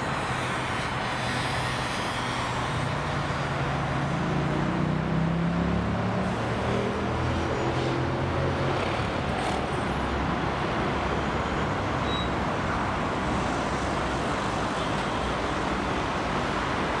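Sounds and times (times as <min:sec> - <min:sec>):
heavy road traffic: 0:00.0 - 0:17.0.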